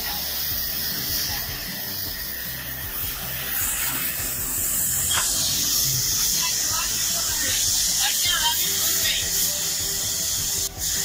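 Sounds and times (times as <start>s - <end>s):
pressure washer jet hissing: 0.0s - 11.0s.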